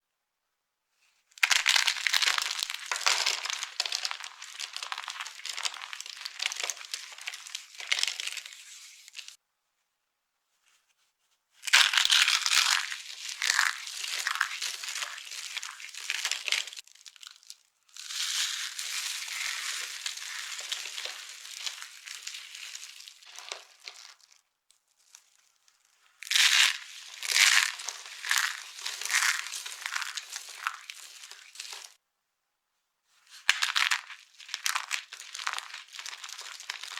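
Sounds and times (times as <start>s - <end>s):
dry soap crackling when crushed: 1.4s - 9.4s, 11.6s - 32.0s, 33.3s - 36.9s.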